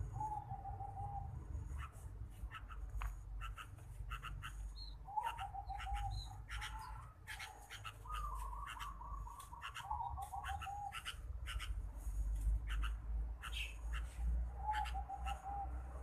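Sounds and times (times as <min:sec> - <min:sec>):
bird calling repeated notes: 0:00.0 - 0:11.8, 0:12.6 - 0:15.9.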